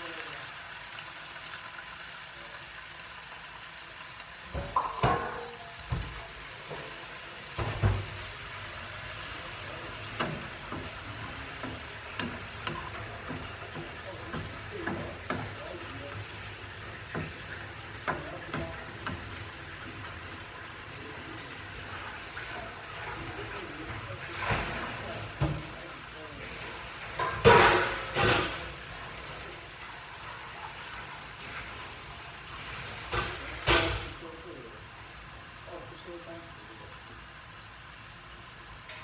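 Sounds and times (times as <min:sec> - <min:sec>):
spinach sizzling in oil: 0:00.0 - 0:39.0.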